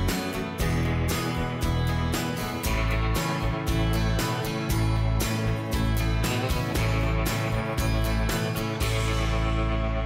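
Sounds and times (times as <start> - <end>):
country guitar music: 0.0 - 10.0.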